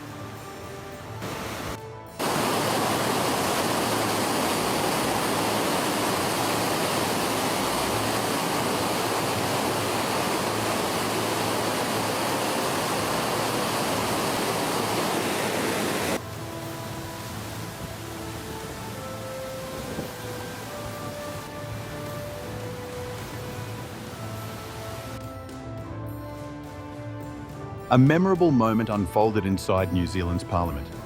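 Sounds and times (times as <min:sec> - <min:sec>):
floodwater rushing: 0:00.0 - 0:25.3.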